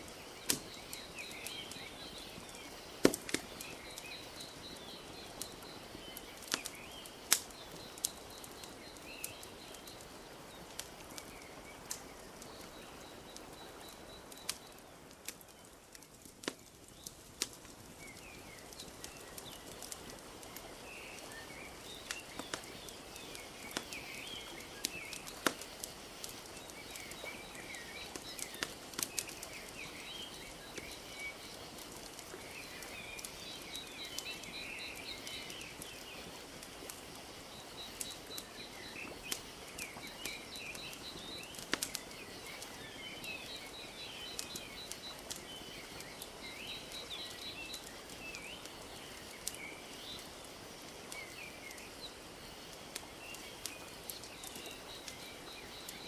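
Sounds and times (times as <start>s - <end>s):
birds chirping: 0.0s - 56.0s
wood fire crackling: 0.0s - 56.0s.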